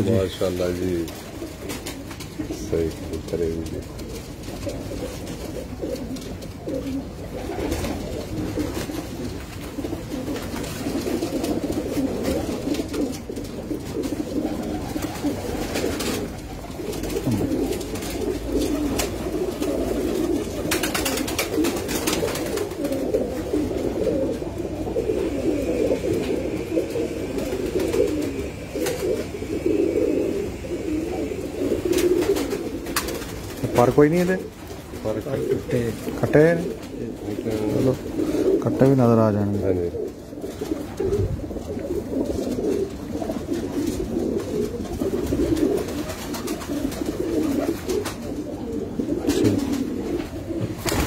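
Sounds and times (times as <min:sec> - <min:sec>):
pigeons cooing: 0:00.0 - 0:51.0.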